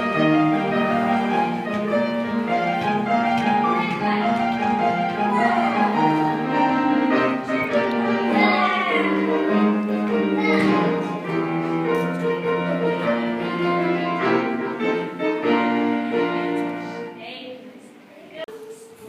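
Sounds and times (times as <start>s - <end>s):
classical music: 0.0s - 18.1s.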